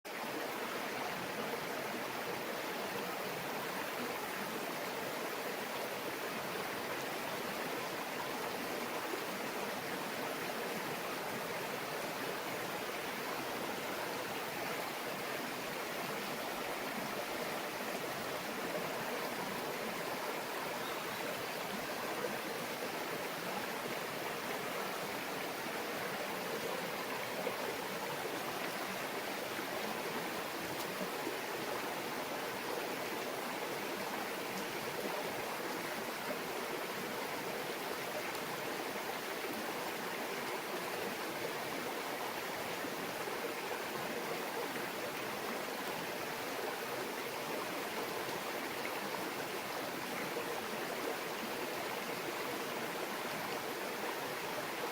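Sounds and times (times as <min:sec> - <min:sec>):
stream babbling over stones: 0:00.1 - 0:54.9.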